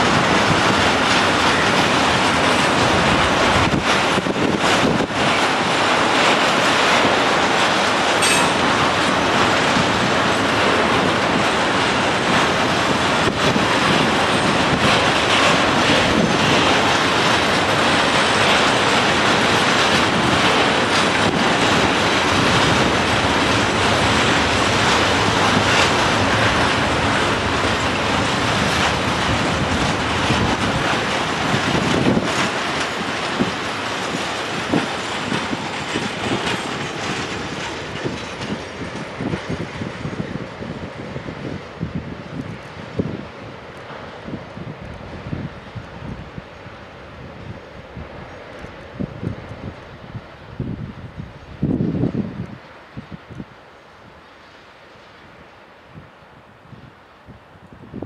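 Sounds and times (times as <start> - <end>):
wheels clacking over rail joints: 0.0 - 47.0
train wheels rumbling on rail: 0.0 - 58.0.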